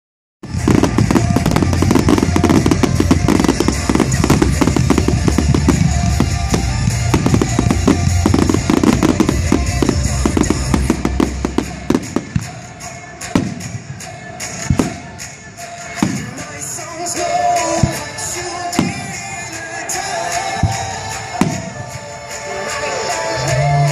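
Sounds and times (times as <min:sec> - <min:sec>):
fireworks bursting and crackling: 0:00.4 - 0:23.9
music with heavy beat: 0:00.4 - 0:23.9.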